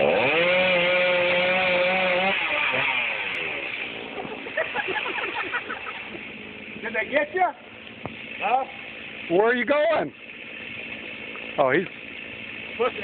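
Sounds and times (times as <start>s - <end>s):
chainsaw engine revving: 0.0s - 13.0s.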